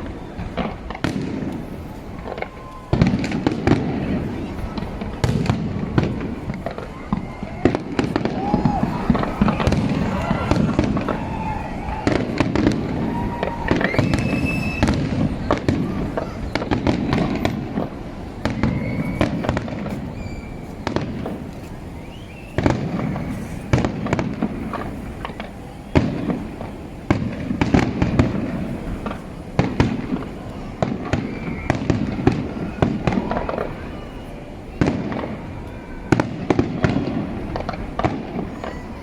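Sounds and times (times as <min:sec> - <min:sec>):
rumble of explosions: 0:00.0 - 0:34.1, 0:34.7 - 0:39.0
fireworks bangs and cracks: 0:00.0 - 0:39.0.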